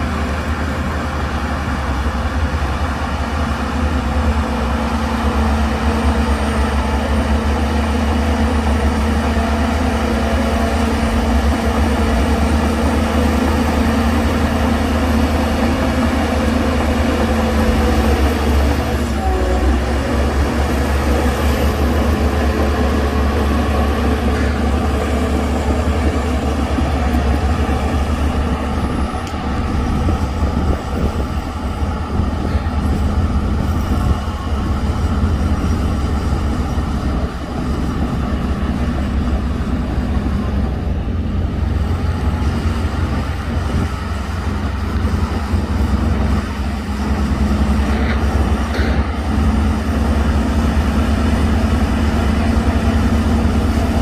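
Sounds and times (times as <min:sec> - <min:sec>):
diesel machine running under load: 0:00.0 - 0:54.0.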